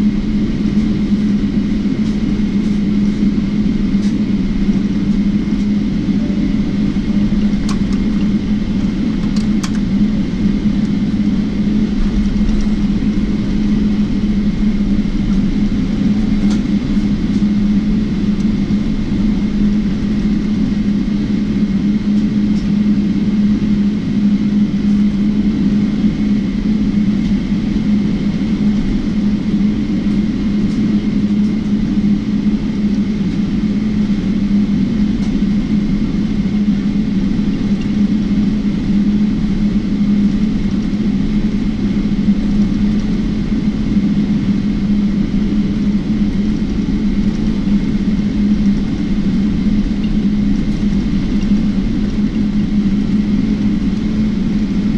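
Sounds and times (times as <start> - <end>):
aircraft cabin engine drone: 0.0 - 54.9.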